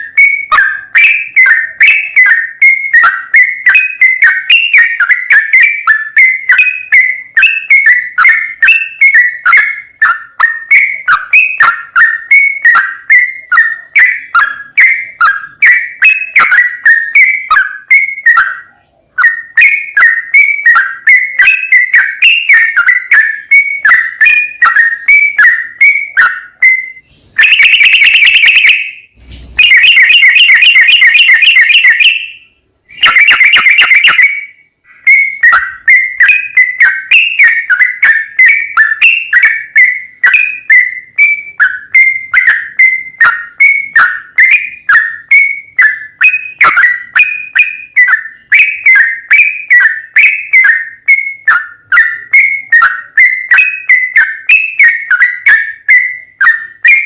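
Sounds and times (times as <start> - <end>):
bird chirping notes: 0.0 - 57.0
bird trills: 0.0 - 57.0.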